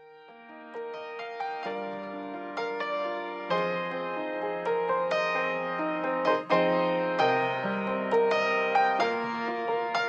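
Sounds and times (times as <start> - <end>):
soft piano melody: 0.0 - 10.0.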